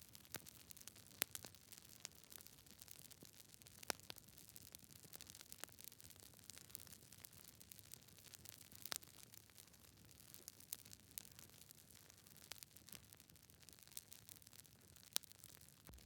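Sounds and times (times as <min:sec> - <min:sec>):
campfire crackling and popping: 0:00.1 - 0:16.0.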